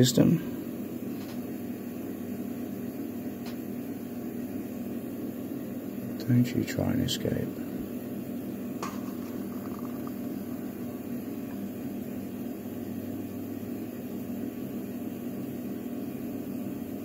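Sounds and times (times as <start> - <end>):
room noise hum and hiss: 0.0 - 17.0.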